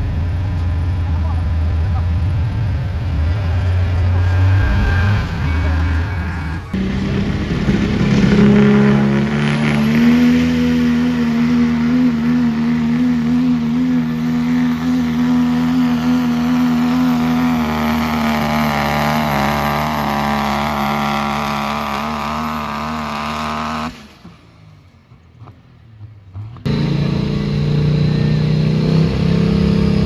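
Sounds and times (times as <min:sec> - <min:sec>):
diesel truck engine at full throttle: 0:00.0 - 0:30.0.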